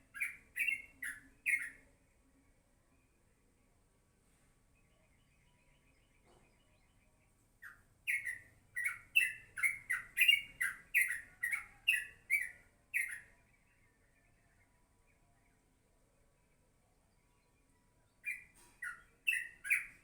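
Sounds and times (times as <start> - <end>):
bird chirping: 0.0 - 2.2, 4.7 - 15.7, 16.4 - 20.0.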